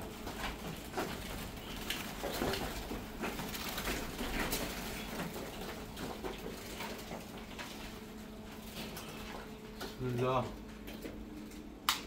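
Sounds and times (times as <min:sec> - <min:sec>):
doves being handled into a cage: 0:00.0 - 0:11.6.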